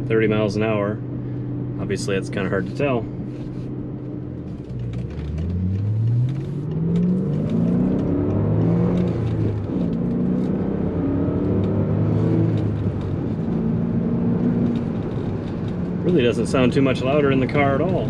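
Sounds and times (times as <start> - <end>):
car engine accelerating: 1.5 - 18.0.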